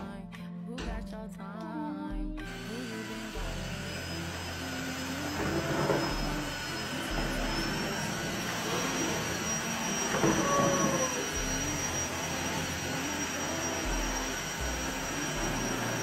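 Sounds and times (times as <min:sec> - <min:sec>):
floor vacuum motor whining: 0:02.4 - 0:16.0.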